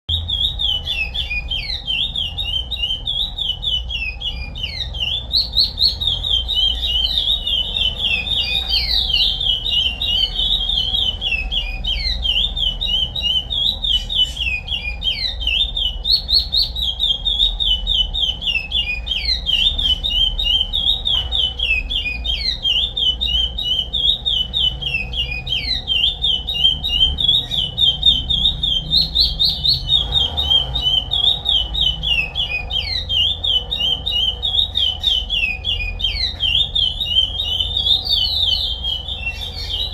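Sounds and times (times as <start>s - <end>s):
finch singing high notes: 0.1s - 39.9s.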